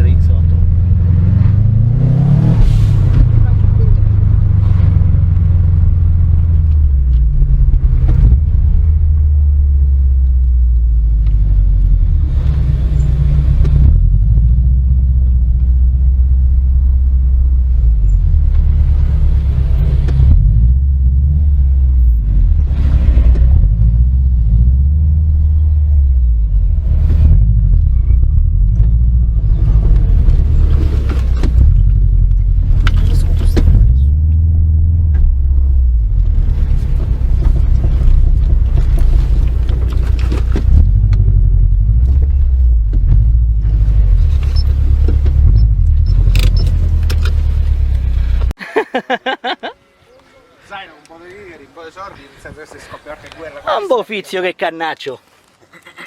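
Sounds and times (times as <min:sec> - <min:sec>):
car engine rumbling: 0:00.0 - 0:48.6.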